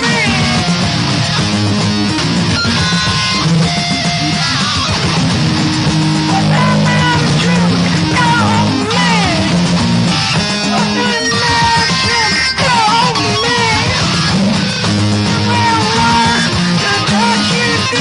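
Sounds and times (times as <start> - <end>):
electric guitar bending notes: 0.0 - 18.0
live band music: 0.0 - 18.0.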